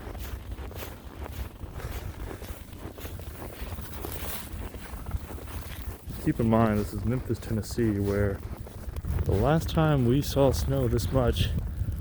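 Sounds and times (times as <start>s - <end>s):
footsteps crunching in snow: 0.0s - 12.0s
wind buffeting microphone: 0.0s - 12.0s.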